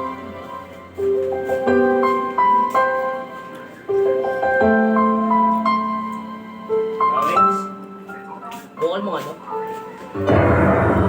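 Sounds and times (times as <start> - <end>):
piano ballad over loudspeakers: 0.0 - 11.0.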